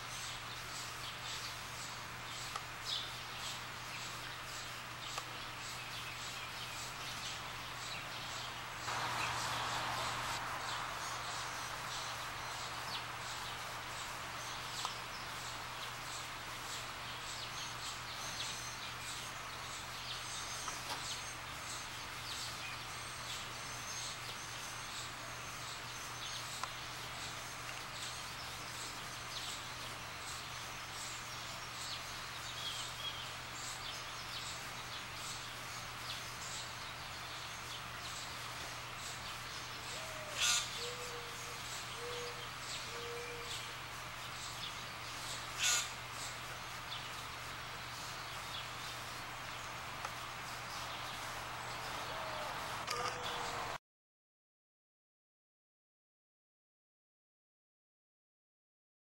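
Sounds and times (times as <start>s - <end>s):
background hiss: 0.0s - 53.8s
birds chirping: 0.0s - 53.8s.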